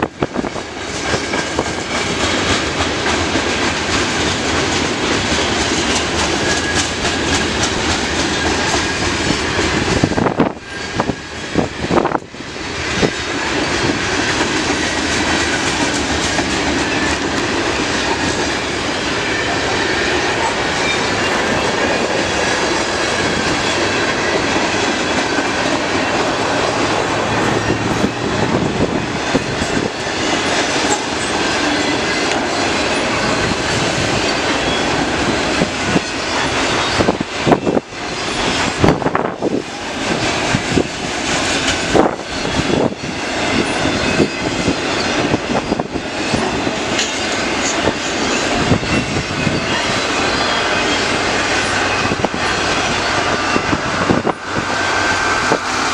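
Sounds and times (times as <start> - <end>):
train wheels rumbling on rail: 0.0 - 55.9
wheels clacking over rail joints: 0.0 - 55.9.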